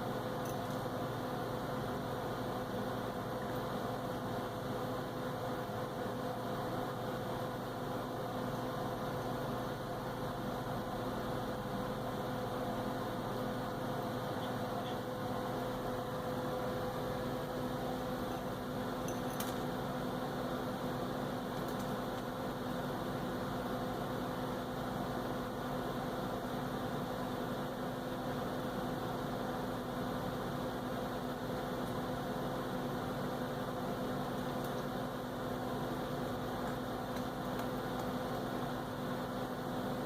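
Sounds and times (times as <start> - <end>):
appliance hum: 0.0 - 40.0.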